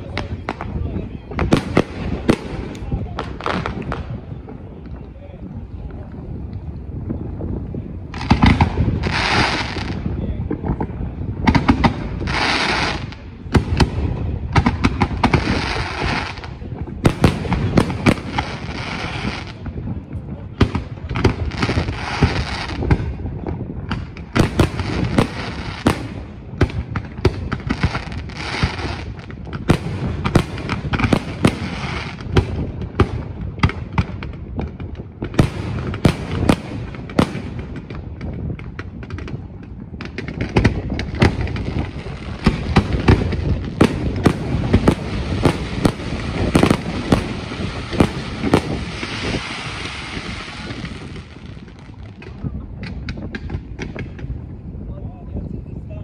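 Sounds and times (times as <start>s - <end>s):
fireworks bangs and booms: 0.0s - 56.0s
fireworks crackling: 0.0s - 56.0s.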